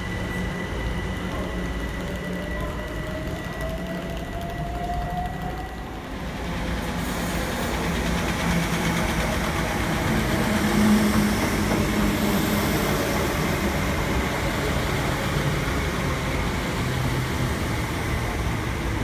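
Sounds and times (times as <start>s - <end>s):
electric train rumbling past: 0.0s - 19.0s.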